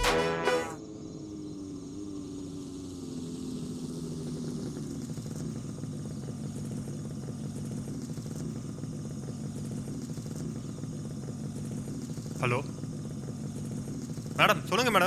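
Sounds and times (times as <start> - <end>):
crickets chirping: 0.2 - 15.0
motorcycle engine idling: 0.7 - 15.0.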